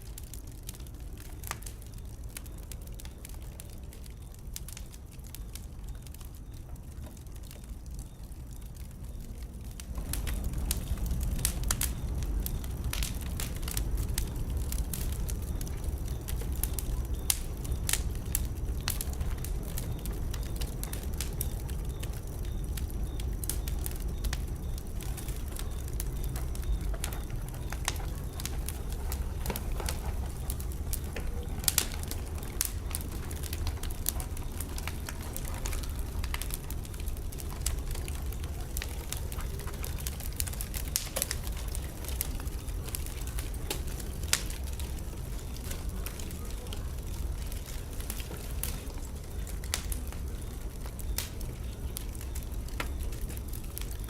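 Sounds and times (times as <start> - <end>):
fire crackling and popping: 0.0 - 54.0
wood fire burning: 0.0 - 54.0.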